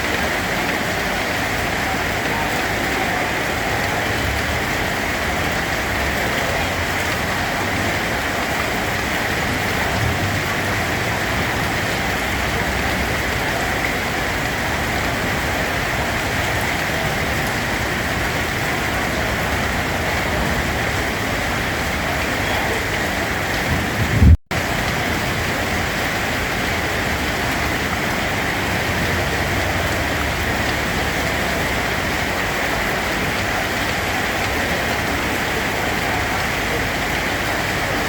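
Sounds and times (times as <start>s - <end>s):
rain pattering on a surface: 0.0s - 38.0s.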